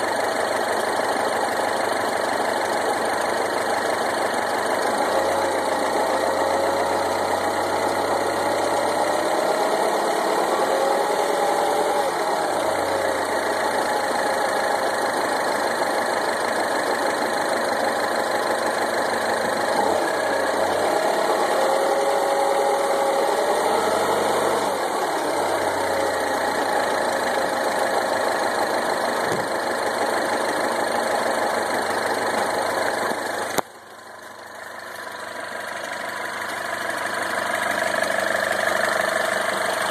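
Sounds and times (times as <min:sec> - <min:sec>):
car engine idling with clatter: 0:00.0 - 0:39.9.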